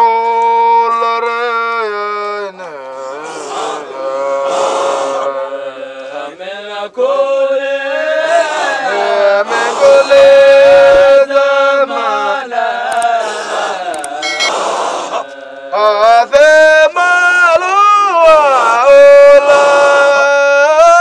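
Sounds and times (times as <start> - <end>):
men chanting together: 2.7 - 21.0.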